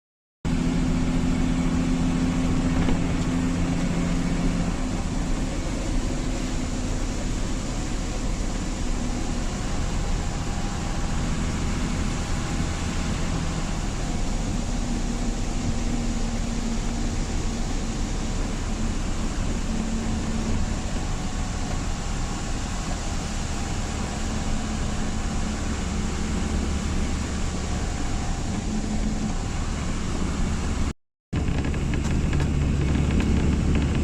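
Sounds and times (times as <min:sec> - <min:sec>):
vehicle engine running: 0:00.5 - 0:34.0.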